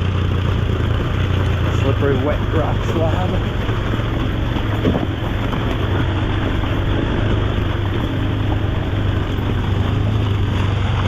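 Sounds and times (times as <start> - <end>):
vehicle engine idling low: 0.0 - 11.0.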